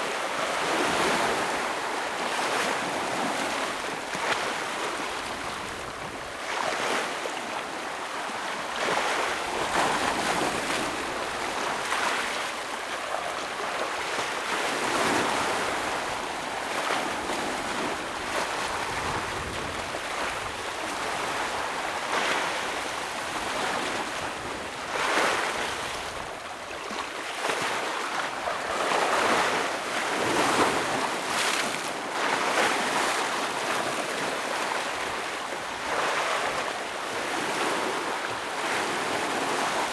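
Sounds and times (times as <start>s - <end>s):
ocean waves breaking on rocks: 0.0s - 39.9s.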